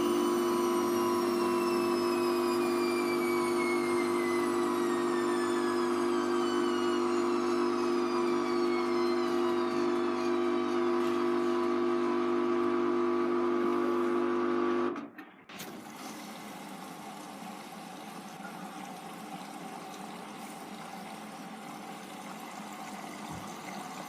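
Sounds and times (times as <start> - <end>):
washing machine motor whine: 0.0 - 24.0
washing machine pump hum: 0.0 - 24.0.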